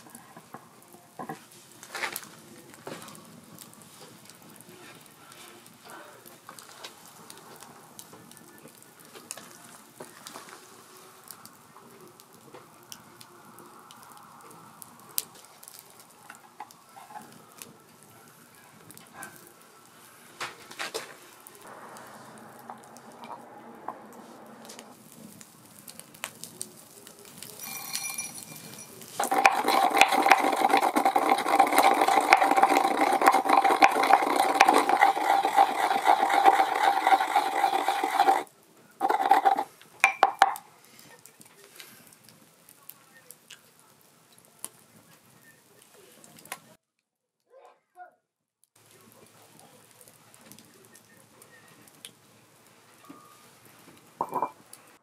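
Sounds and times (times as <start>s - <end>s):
food sizzling: 0.0s - 46.8s, 48.8s - 55.0s
faint crackles and clicks: 0.0s - 47.1s, 48.6s - 55.0s.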